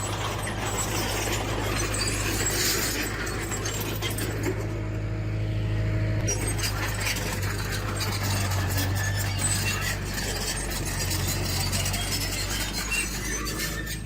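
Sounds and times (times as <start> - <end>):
high squeaks: 0.0 - 4.7, 6.2 - 14.0
diesel engine running: 0.0 - 14.0.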